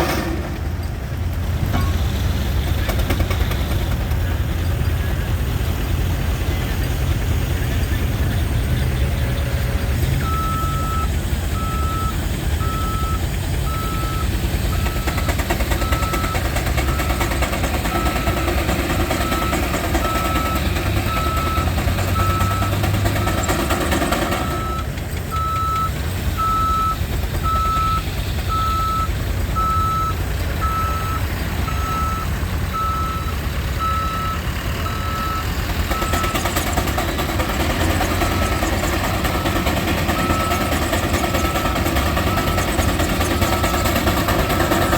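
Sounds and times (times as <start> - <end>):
machinery rumbling: 0.0 - 44.9
reversing alarm beeping: 7.8 - 44.9.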